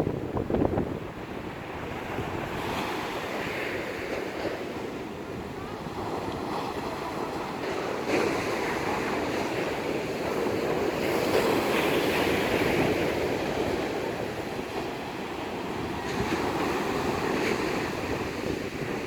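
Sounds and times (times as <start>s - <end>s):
surf breaking and washing: 0.0s - 19.0s
wind rumbling on microphone: 0.0s - 19.0s.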